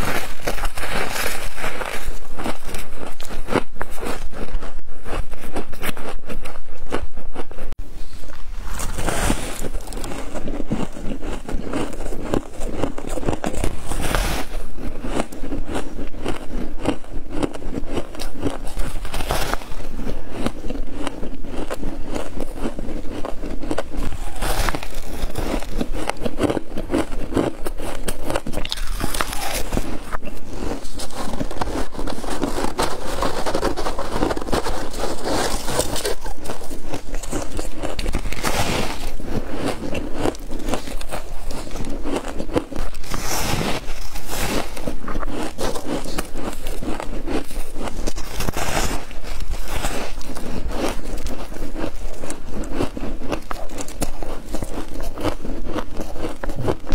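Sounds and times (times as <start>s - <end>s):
crunching frost being chewed: 0.0s - 56.9s.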